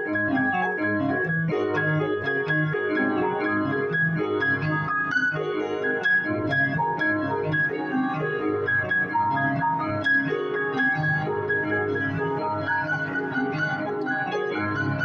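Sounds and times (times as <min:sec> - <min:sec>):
flamenco keyboard piece: 0:00.0 - 0:15.0.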